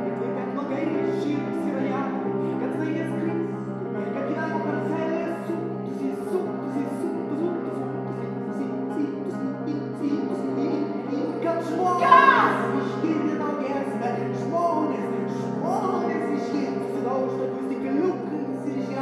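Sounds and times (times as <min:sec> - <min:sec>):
grand piano playing: 0:00.0 - 0:19.0.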